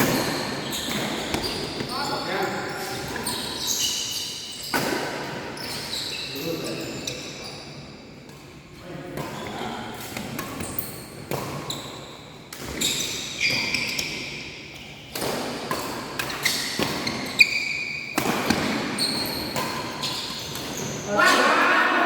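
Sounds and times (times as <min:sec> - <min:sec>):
shoes squeaking on court floor: 0:00.0 - 0:08.0, 0:09.2 - 0:21.6.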